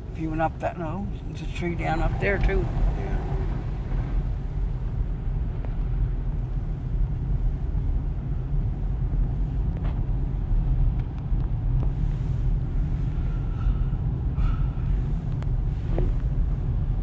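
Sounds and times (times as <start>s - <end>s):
car engine and tyres rumble: 0.0s - 17.0s.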